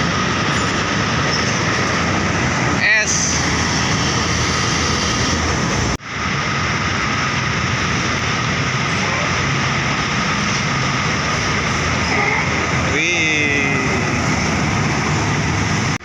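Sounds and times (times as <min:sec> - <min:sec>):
heavy road traffic roar: 0:00.0 - 0:16.0.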